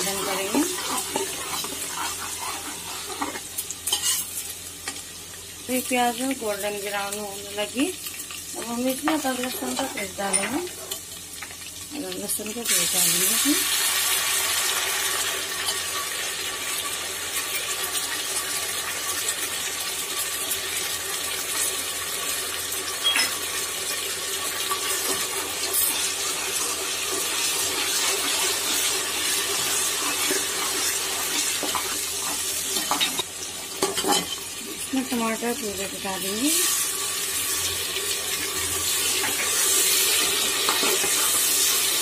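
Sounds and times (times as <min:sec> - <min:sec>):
onion sizzling in hot oil: 0:00.0 - 0:42.0.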